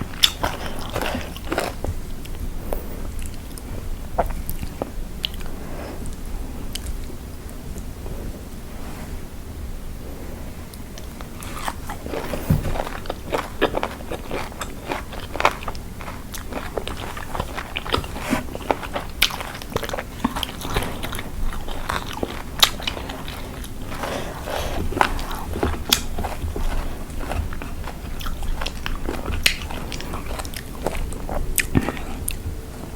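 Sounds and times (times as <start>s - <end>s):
salad being chewed crunchily: 0.0s - 7.9s, 10.6s - 32.9s.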